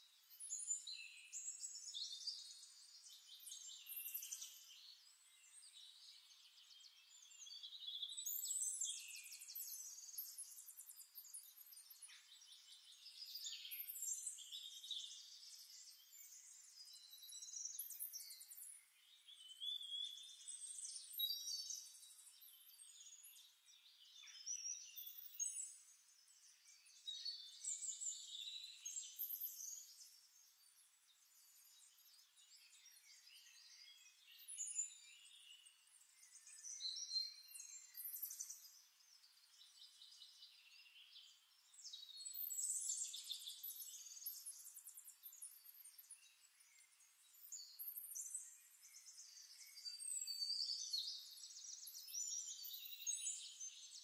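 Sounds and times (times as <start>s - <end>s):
faint birdsong chirps and trills: 0.0s - 54.0s.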